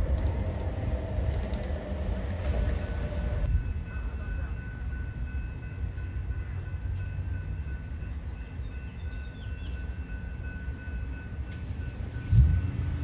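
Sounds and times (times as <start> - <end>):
train diesel engine rumble: 0.0 - 13.0.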